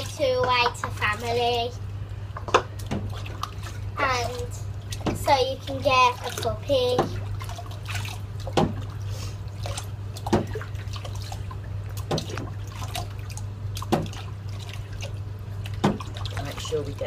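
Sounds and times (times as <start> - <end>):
low steady hum: 0.0 - 17.0
water trickling and dripping: 0.0 - 17.0
sponge splashing in water: 2.7 - 17.0.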